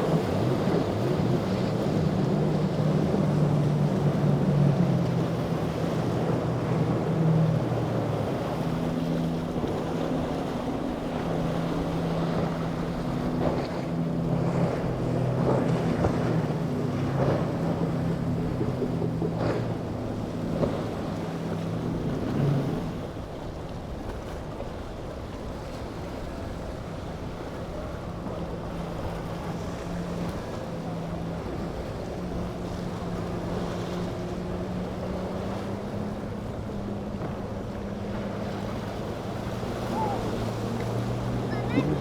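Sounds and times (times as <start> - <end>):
boat engines droning: 0.0 - 42.0
water wash: 0.0 - 42.0.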